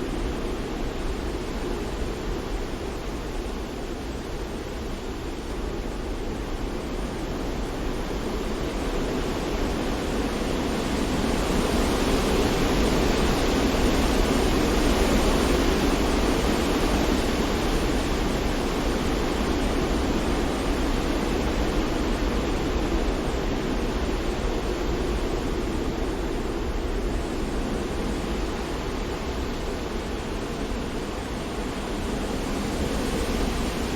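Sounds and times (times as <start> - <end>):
steady rushing white noise: 0.0 - 33.9.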